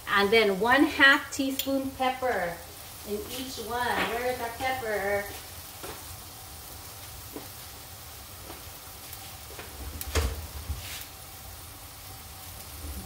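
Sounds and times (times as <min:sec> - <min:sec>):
pots hissing on gas burners: 0:00.0 - 0:13.0.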